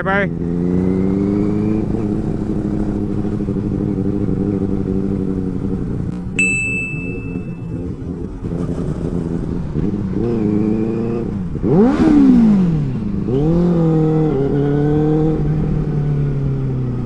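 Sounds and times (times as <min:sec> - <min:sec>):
motorcycle engine revving: 0:00.0 - 0:06.4, 0:07.2 - 0:17.0.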